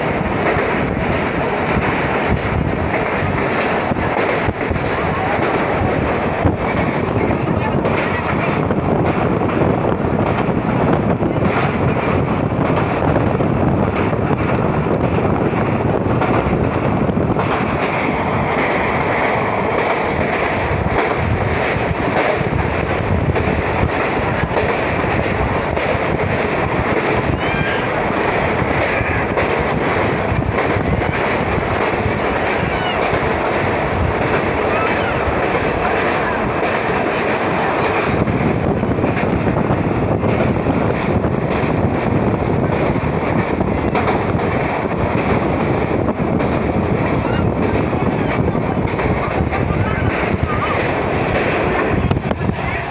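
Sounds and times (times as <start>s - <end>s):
train running at speed: 0.0s - 52.9s
wind buffeting microphone: 0.0s - 52.9s.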